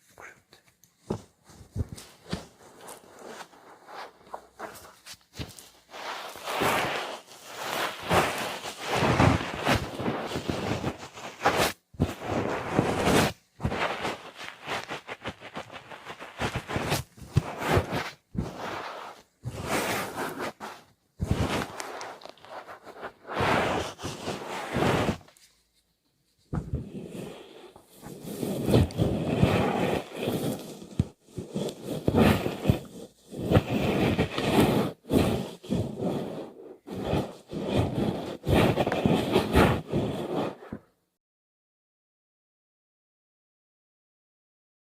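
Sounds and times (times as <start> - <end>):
scratching at microphone: 0.0 - 40.9.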